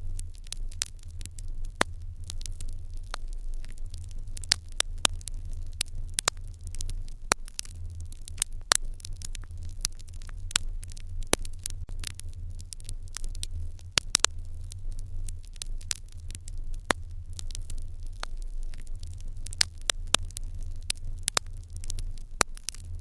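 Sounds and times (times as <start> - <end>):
fire crackling and popping: 0.0 - 23.0
low steady hum: 0.0 - 23.0.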